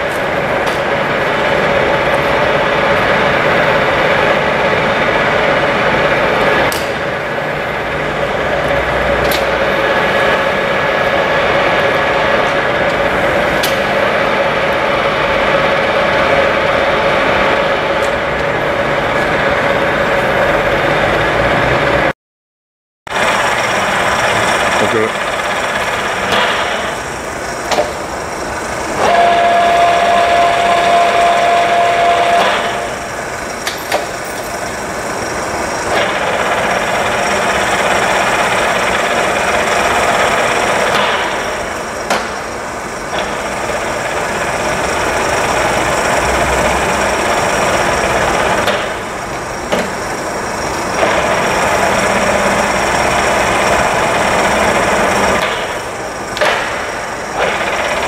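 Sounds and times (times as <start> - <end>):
milling machine running: 0.0 - 22.1, 23.1 - 58.0
steady whine: 0.0 - 22.1, 23.1 - 58.0.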